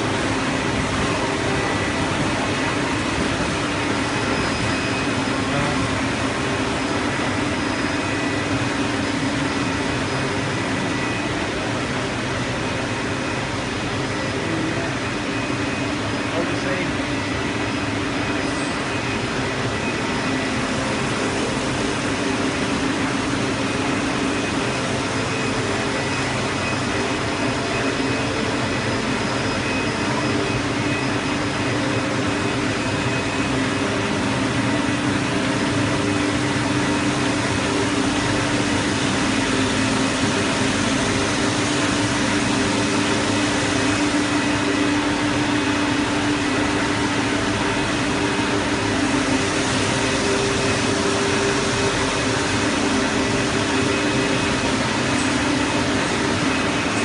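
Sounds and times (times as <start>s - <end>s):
printing machinery humming: 0.0s - 57.0s.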